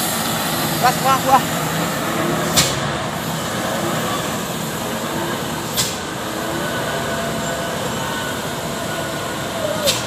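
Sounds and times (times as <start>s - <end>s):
truck engines running: 0.0s - 10.0s.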